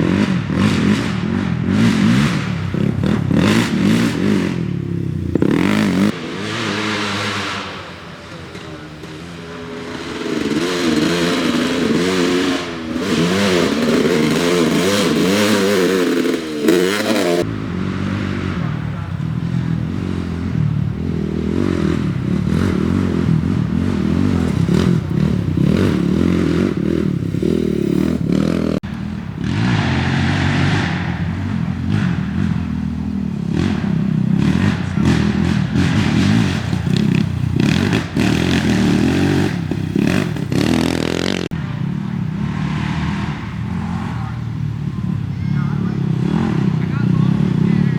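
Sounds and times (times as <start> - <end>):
race vehicle engines revving: 0.0 - 47.9.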